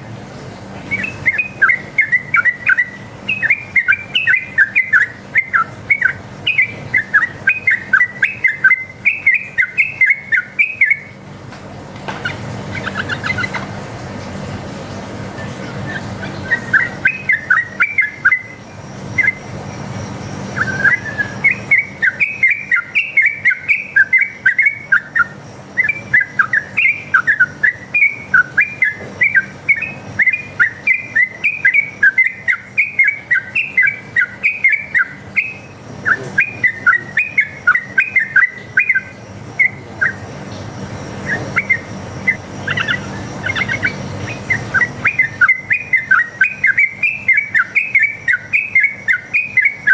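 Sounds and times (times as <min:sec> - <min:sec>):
bulbul singing chirpy notes: 0:00.0 - 0:49.9.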